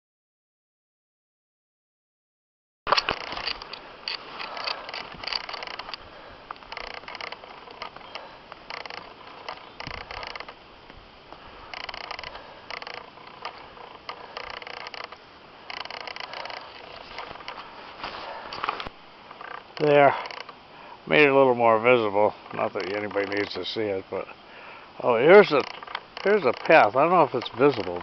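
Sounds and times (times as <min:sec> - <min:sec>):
snow crunching and creaking: 0:02.9 - 0:28.0.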